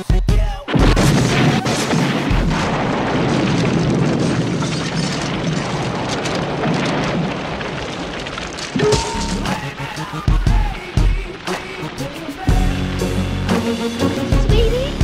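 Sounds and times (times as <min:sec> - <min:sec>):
debris falling rumble: 0:00.7 - 0:15.0
fire crackling: 0:00.7 - 0:15.0.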